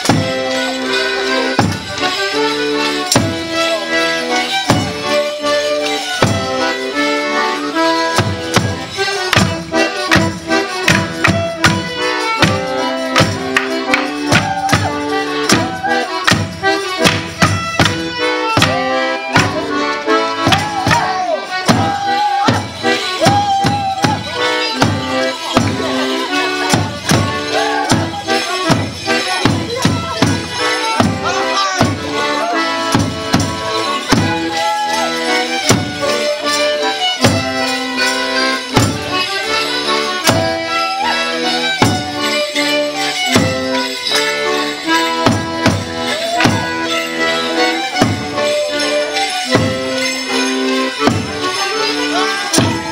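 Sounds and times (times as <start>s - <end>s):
fiddle playing folk dance tune: 0.0s - 52.9s.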